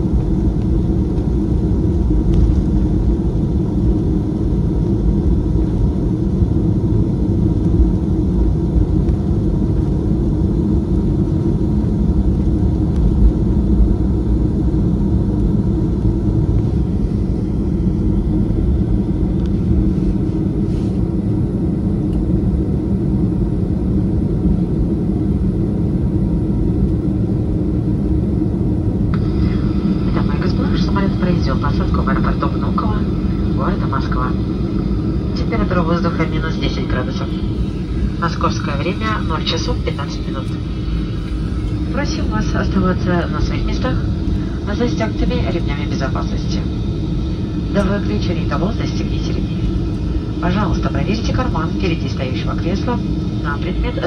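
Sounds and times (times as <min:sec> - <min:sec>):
jet engines idling: 0:00.0 - 0:54.0.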